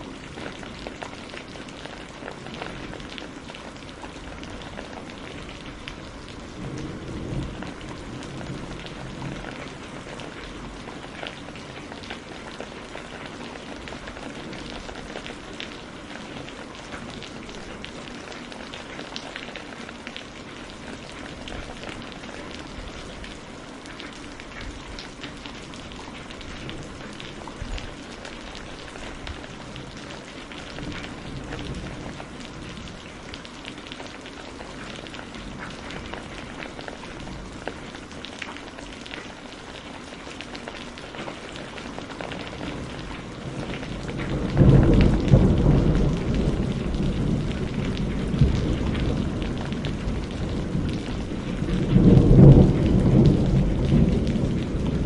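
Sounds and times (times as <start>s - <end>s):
low rumble of thunder: 0.0s - 23.5s, 24.2s - 38.3s, 40.5s - 55.0s
steady rain: 0.0s - 55.0s.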